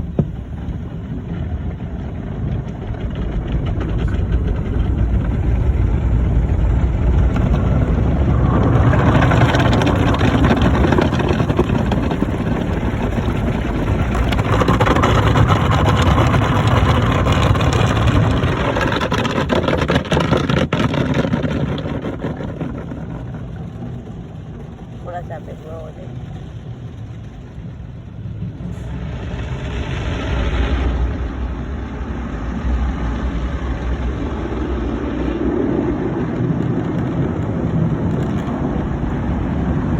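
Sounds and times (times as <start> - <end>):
car wash rushing spattering water: 0.0 - 39.9.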